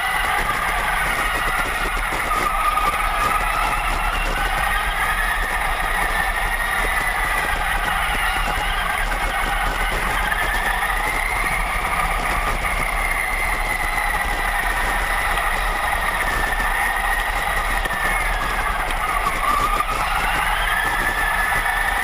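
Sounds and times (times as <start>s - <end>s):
toy truck electric motor whine: 0.0s - 22.0s.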